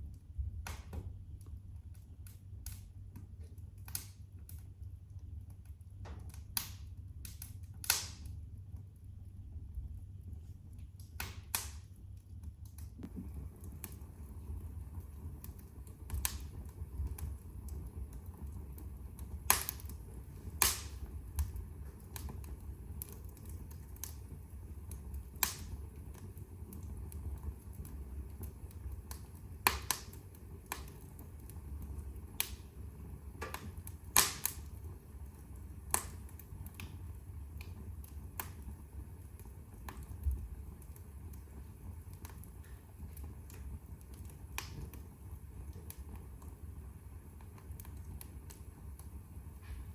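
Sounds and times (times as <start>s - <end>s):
burning logs crackling and popping: 0.0s - 49.9s
fire rumbling: 0.0s - 49.9s.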